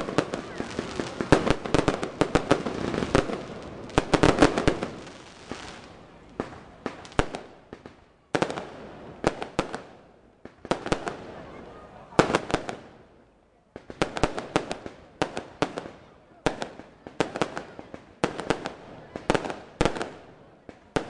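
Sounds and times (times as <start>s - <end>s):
fireworks crackling and popping: 0.0s - 13.1s, 13.7s - 21.0s.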